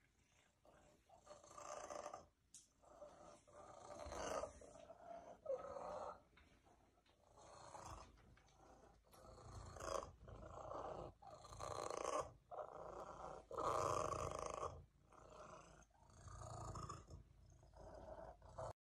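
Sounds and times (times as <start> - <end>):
cat purring loudly: 0.3 - 6.3, 7.2 - 18.8.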